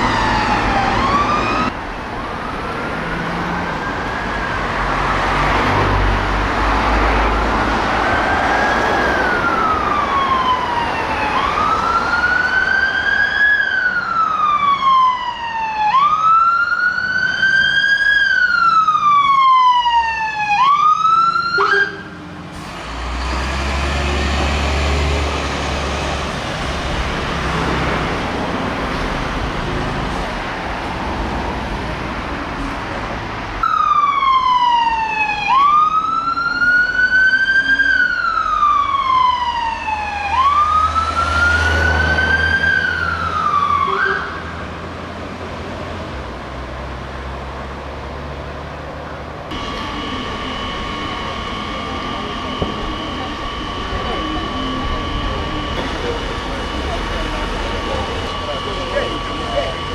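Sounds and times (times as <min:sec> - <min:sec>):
diesel engine rumbling: 0:00.0 - 0:59.9
fire engine wail siren: 0:00.0 - 0:59.9.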